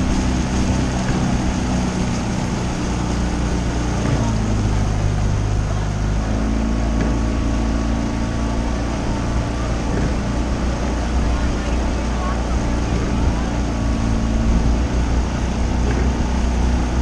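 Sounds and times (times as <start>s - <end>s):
outboard motor running: 0.0s - 17.0s
water noise: 0.0s - 17.0s
wind: 0.0s - 17.0s.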